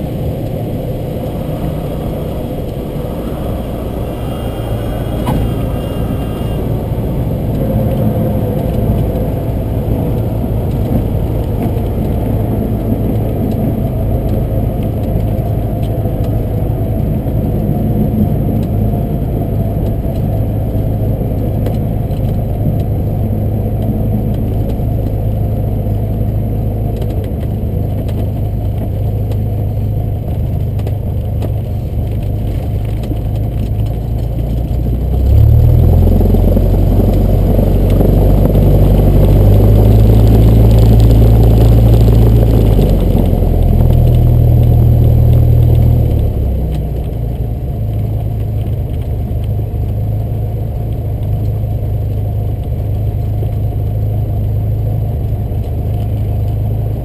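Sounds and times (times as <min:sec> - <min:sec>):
small plane engine drone: 0:00.0 - 0:57.0.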